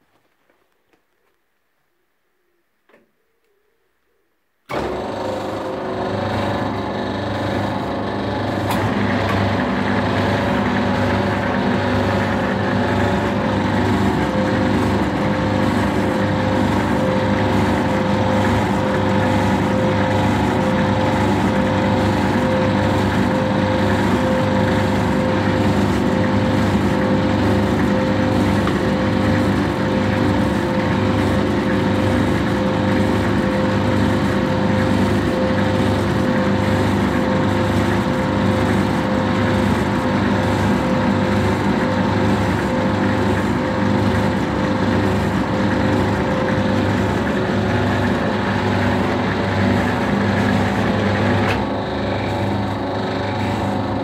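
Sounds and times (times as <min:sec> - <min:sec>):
metal lathe humming: 0:04.7 - 0:54.0.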